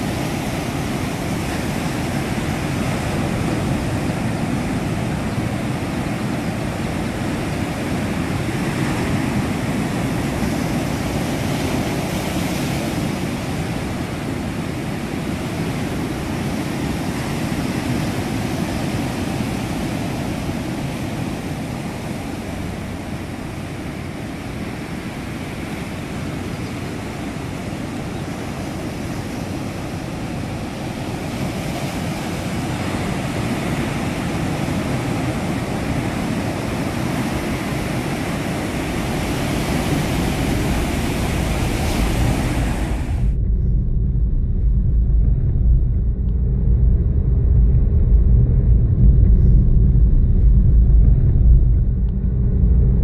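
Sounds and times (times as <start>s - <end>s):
waves washing over boulders: 0.0s - 43.4s.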